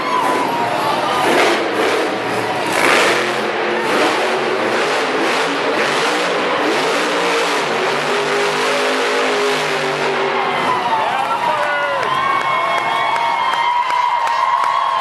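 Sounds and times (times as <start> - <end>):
truck engine revving: 0.0 - 12.4.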